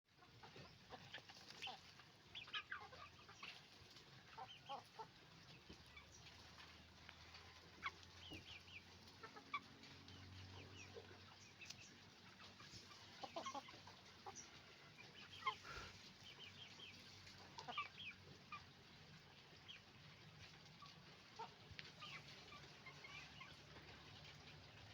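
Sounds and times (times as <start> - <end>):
hens clucking: 0.1 - 24.9.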